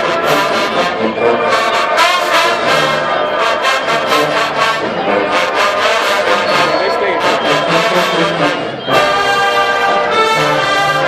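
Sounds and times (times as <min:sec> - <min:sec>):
brass section playing tune: 0:00.0 - 0:11.0.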